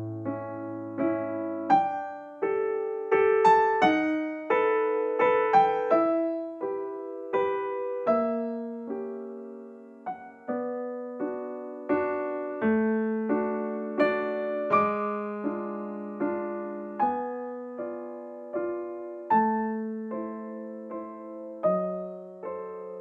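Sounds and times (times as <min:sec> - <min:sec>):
soft piano chords: 0:00.0 - 0:23.0.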